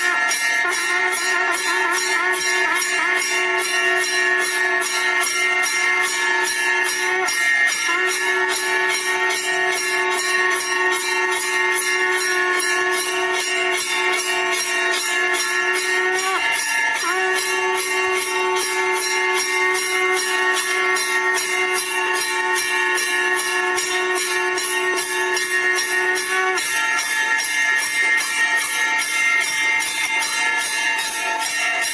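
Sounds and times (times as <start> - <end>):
conch shell blown: 0.0 - 31.9
temple bell ringing: 0.0 - 31.9.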